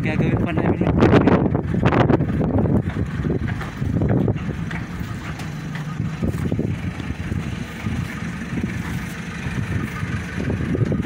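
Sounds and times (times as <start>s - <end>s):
low machine hum: 0.8s - 11.0s.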